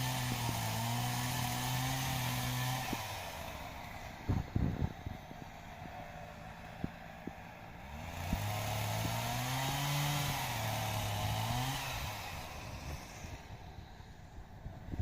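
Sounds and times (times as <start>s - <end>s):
chainsaw engine revving: 0.0s - 14.1s.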